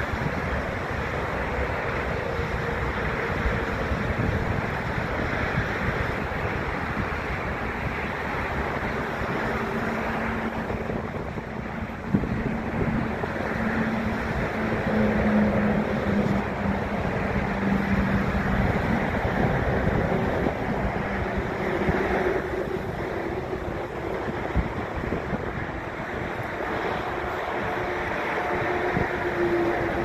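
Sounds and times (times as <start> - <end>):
airliners taxiing rumble: 0.0 - 30.0
wind buffeting microphone: 0.0 - 30.0.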